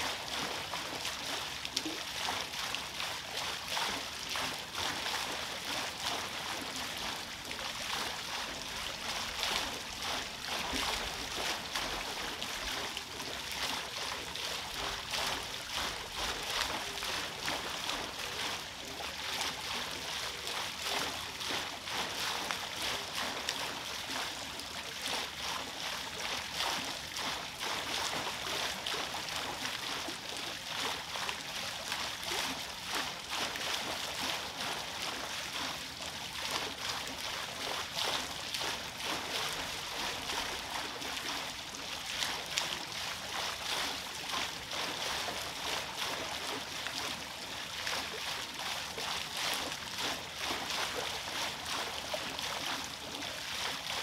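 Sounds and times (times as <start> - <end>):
water pouring onto waterwheel: 0.0 - 54.0.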